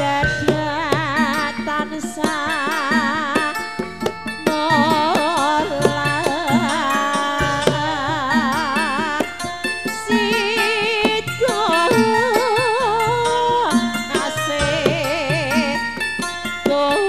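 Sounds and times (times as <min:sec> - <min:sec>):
hand drum strokes: 0:00.0 - 0:17.0
sustained melody with vibrato: 0:00.0 - 0:17.0.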